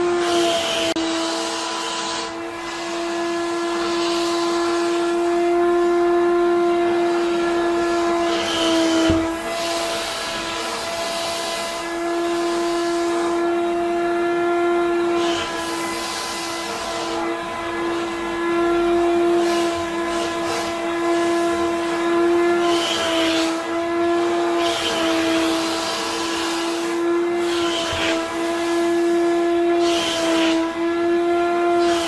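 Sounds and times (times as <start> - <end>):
wet vacuum cleaner running: 0.0 - 32.0.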